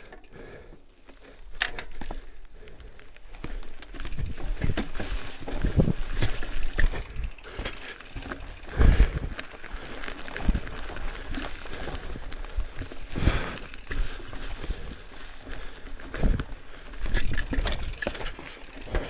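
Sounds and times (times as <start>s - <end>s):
bike knocking and rattling: 0.0s - 19.0s
bike tyres rolling over dirt: 0.0s - 19.0s.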